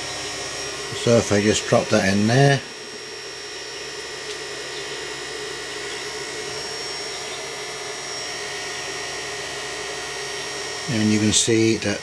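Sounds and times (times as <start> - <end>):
faint high whining tones: 0.0 - 12.0
steady machine hum: 0.0 - 12.0.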